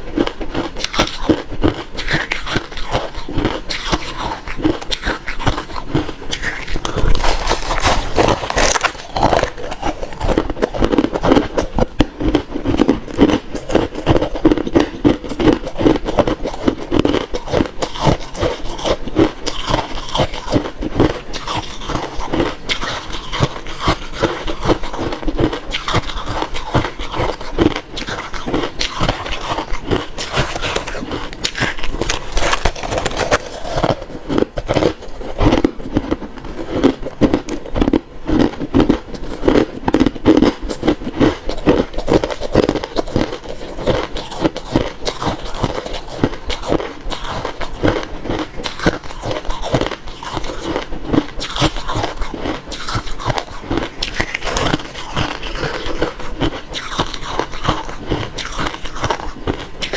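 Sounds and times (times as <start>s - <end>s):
chewing crushed ice: 0.0s - 59.9s.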